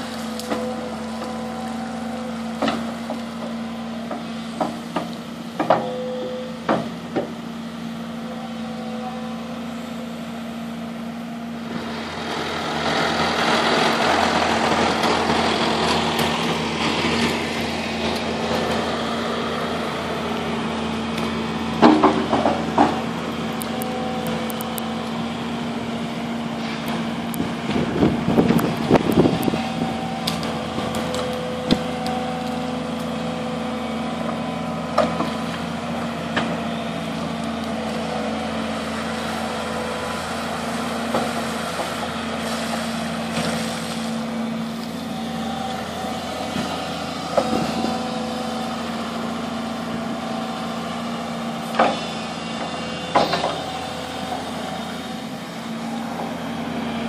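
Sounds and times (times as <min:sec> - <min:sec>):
excavator diesel engine running: 0:00.0 - 0:57.0
tractor engine driving by: 0:00.0 - 0:57.0.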